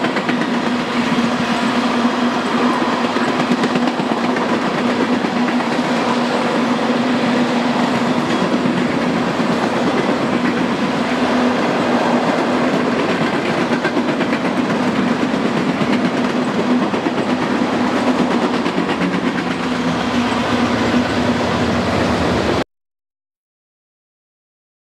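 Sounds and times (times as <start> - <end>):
train wheels rumbling on rails: 0.0 - 22.6.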